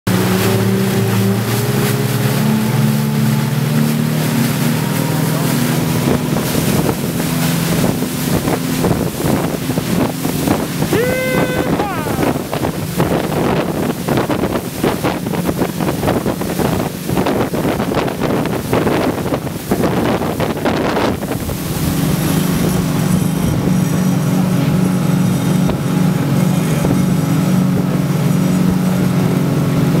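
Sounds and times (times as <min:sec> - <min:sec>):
outboard engines droning: 0:00.1 - 0:30.0
rushing water: 0:00.1 - 0:30.0
wind buffeting microphone: 0:05.2 - 0:30.0.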